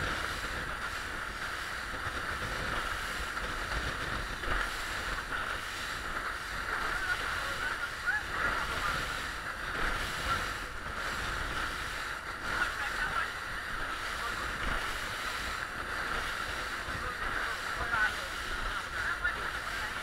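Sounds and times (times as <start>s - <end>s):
water rushing along boat hull: 0.0s - 20.0s
wind buffeting microphone: 0.0s - 20.0s.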